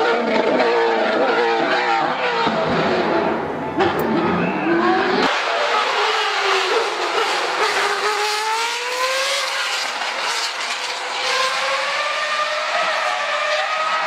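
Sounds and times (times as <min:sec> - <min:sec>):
racing engine at high revs: 0:00.0 - 0:14.0.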